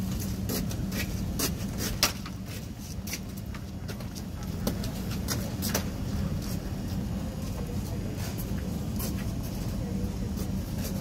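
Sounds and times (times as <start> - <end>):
arena hum and rumble: 0.0 - 11.0.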